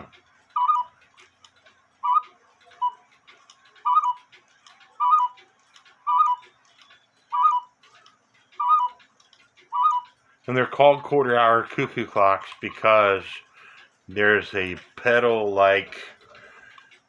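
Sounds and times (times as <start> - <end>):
cuckoo clock calling: 0.0 - 17.0.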